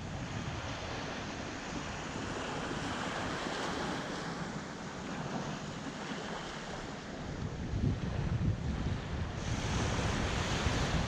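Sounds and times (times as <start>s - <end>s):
small waves washing on beach: 0.0s - 11.0s
wind buffeting microphone: 0.0s - 11.0s.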